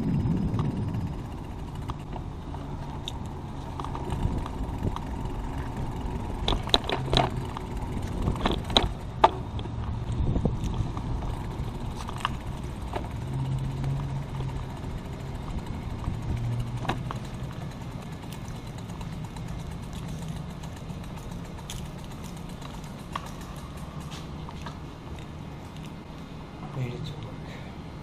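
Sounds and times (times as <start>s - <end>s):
wind and road rumble: 0.0s - 28.0s.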